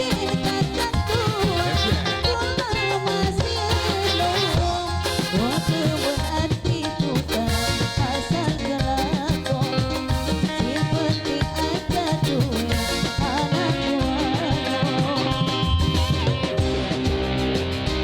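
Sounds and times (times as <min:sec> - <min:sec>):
lively dance music: 0:00.0 - 0:18.0
steady drum beat: 0:00.0 - 0:18.0.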